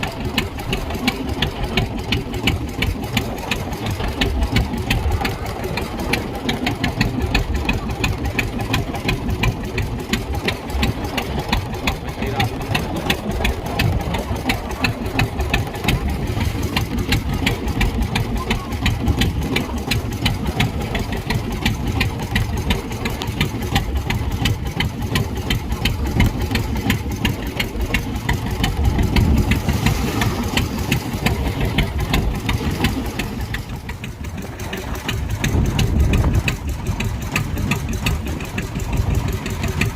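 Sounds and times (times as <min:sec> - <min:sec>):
boat engine knocking: 0:00.0 - 0:39.9.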